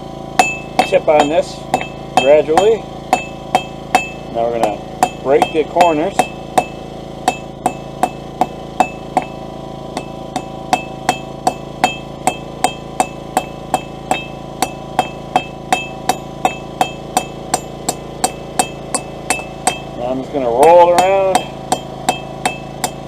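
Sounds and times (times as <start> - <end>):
hammer striking steel on anvil: 0.3 - 23.0.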